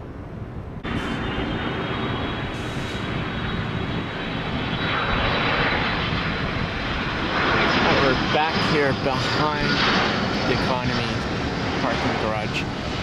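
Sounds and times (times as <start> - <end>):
jet engines rumbling and whining: 0.0 - 13.0
wind on microphone: 0.0 - 13.0.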